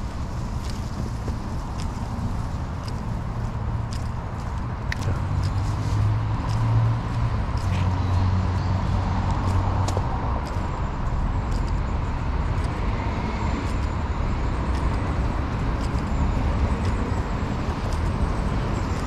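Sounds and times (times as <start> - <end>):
footsteps on leafy dirt path: 0.0 - 19.0
steady low rumble: 0.0 - 19.0.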